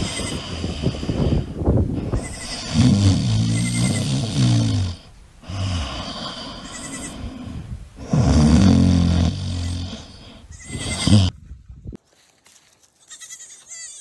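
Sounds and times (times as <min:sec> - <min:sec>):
goat snoring: 0:00.0 - 0:11.4.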